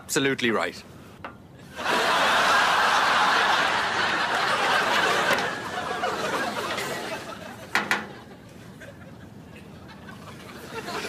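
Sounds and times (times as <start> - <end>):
audience laughing: 1.6 - 11.0.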